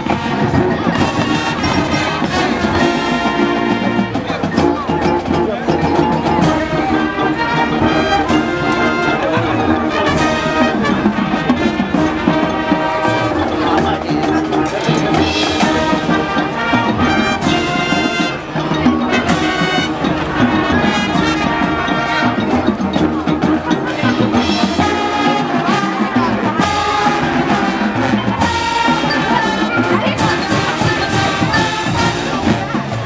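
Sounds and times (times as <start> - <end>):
brass instruments: 0.0 - 33.0
marching band playing: 0.0 - 33.0
percussion: 0.0 - 33.0.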